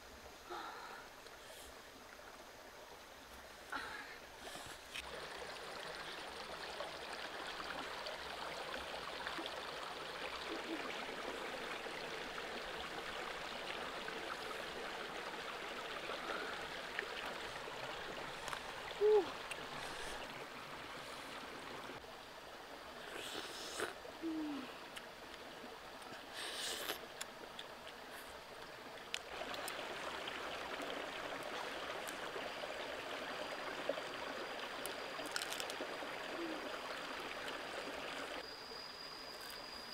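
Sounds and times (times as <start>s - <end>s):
stream rushing: 1.9s - 26.4s, 27.0s - 38.5s.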